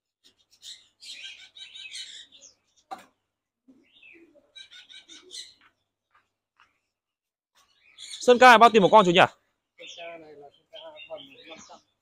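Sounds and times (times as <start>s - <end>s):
small birds chirping and twittering: 0.0s - 12.0s.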